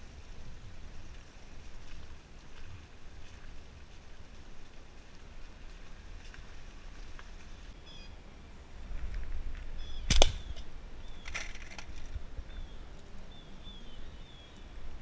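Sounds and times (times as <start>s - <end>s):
wet road hiss: 0.0s - 15.0s.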